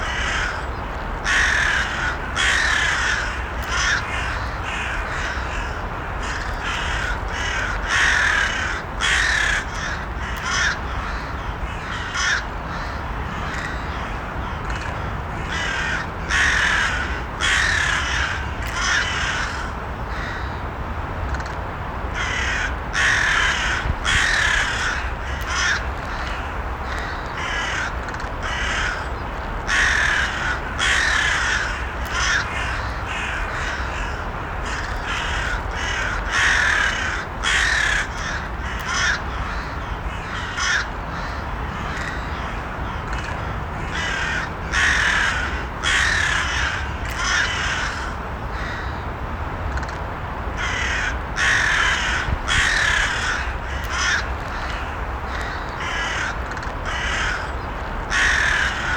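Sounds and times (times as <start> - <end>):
crows cawing: 0.0 - 20.6, 22.1 - 49.0, 50.6 - 58.9.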